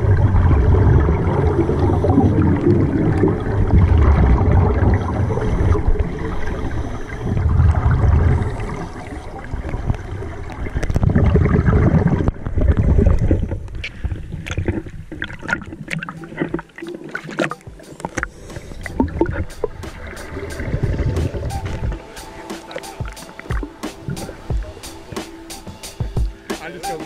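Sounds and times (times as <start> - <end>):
underwater regulator bubbles gurgling: 0.0 - 25.8.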